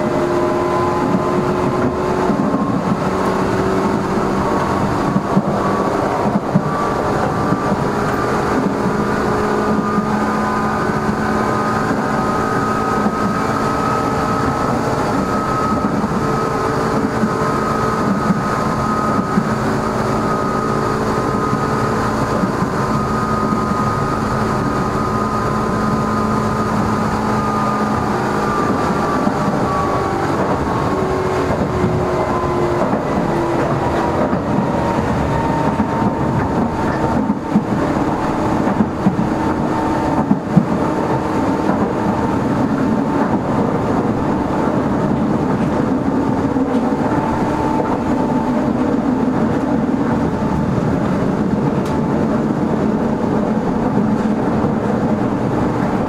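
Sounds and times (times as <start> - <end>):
train motor whine: 0.0 - 56.0
wheels rumbling on rail: 0.0 - 56.0.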